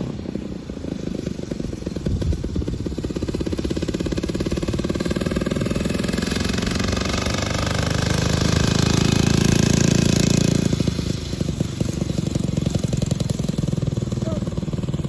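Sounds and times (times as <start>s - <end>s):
engine running with rapid pulse: 0.0s - 15.0s.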